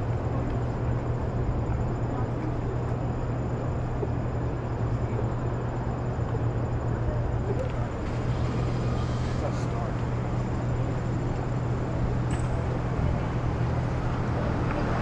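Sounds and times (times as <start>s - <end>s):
low hum of traffic: 0.0s - 15.0s
outdoor noise: 0.0s - 15.0s.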